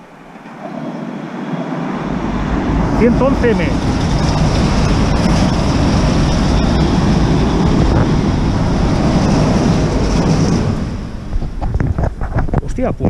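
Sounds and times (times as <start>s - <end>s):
electric train passing: 0.0s - 11.8s
wind on microphone: 0.0s - 13.0s.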